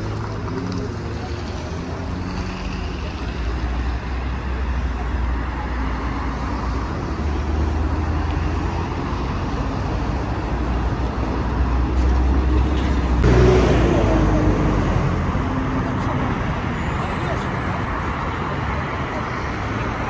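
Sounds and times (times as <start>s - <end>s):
bus passing close: 0.0s - 20.0s
cars driving through intersection: 0.0s - 20.0s.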